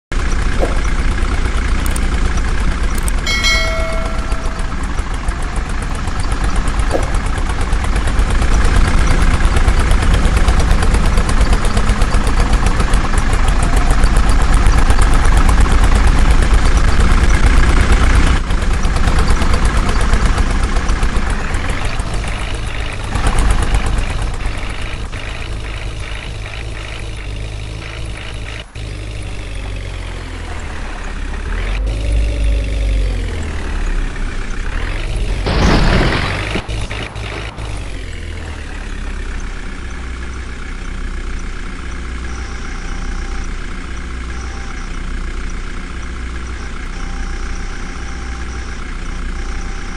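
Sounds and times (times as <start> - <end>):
diesel engine running: 0.1 - 49.9.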